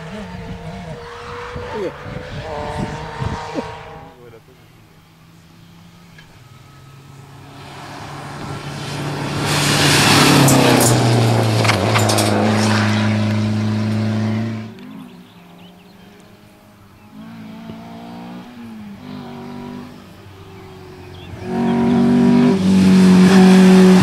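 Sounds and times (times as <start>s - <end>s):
rally car engine at high revs: 0.0s - 4.2s, 5.0s - 24.0s.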